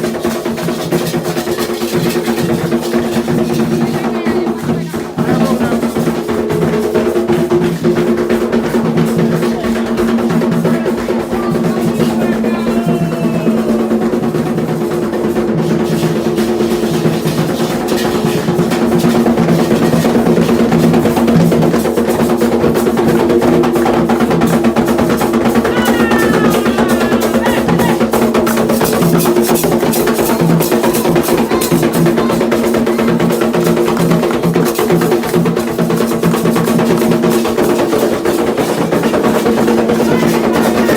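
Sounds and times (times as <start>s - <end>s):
hand drums playing dense rhythm: 0.0s - 40.9s.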